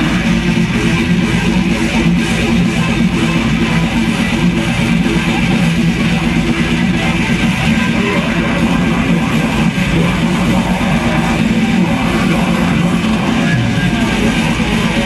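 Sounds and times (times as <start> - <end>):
death metal band playing live: 0.0 - 15.0.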